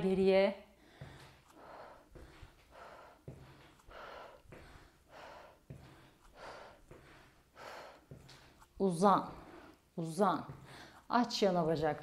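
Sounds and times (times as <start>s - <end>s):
woman breathing hard: 0.7s - 8.7s, 9.3s - 11.1s
footsteps thudding on floor: 0.9s - 11.0s.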